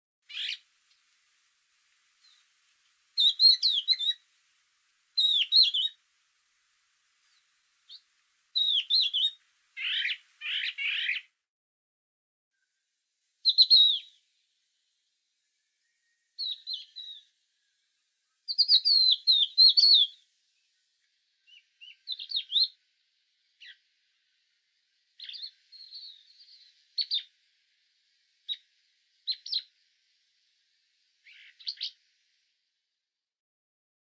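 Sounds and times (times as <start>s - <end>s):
songbirds chirping: 0.3s - 11.4s, 13.4s - 32.7s.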